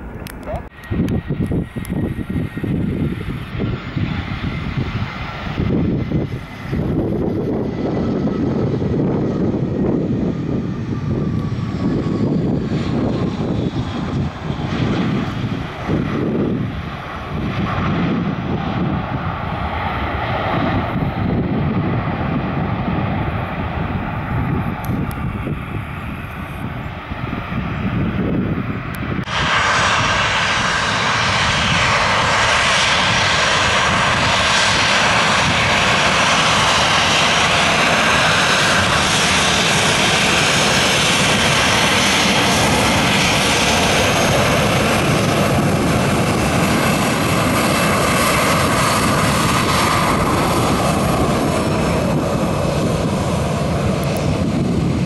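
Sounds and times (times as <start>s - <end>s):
distant jet rumble: 0.0s - 55.0s
jet engines roaring: 0.0s - 55.0s.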